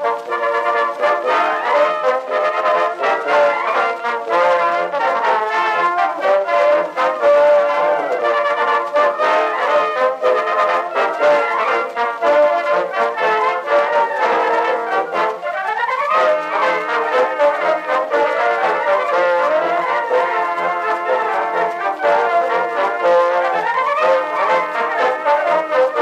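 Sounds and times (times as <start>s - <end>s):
brass music: 0.0s - 26.0s.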